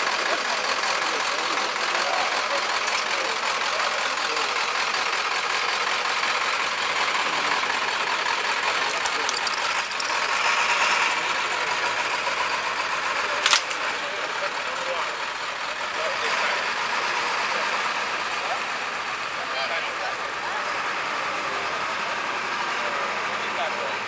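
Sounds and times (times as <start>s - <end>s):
ambulance engine running: 0.0s - 24.0s.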